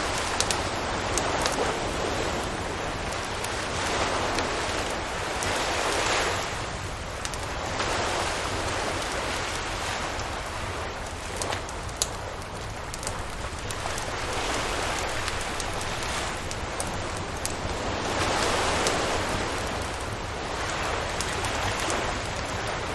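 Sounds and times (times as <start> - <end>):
campfire crackling and popping: 0.0 - 22.9
surf washing ashore: 0.0 - 22.9.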